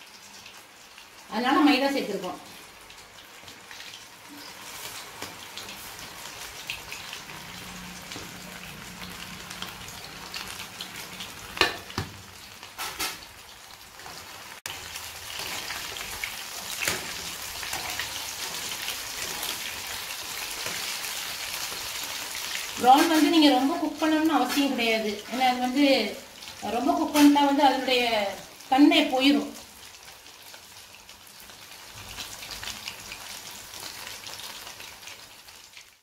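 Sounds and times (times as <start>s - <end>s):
prawns deep-frying in oil: 0.0s - 36.0s.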